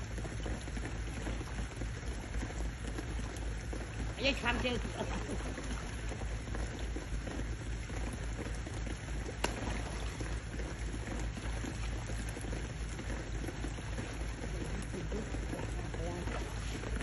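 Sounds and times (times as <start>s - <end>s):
rain on water: 0.0s - 17.0s
water splashing: 0.0s - 17.0s.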